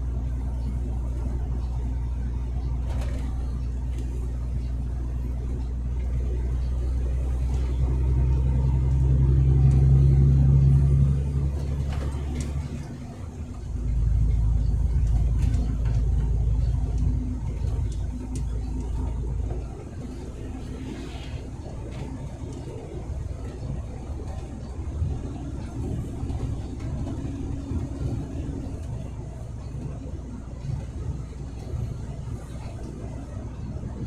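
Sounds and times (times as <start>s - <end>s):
truck engine under load: 0.0s - 34.0s.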